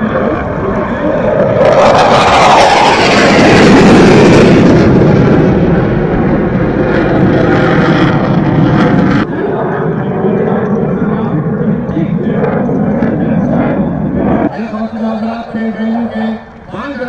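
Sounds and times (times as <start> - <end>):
jet engine flying past: 0.0 - 17.0.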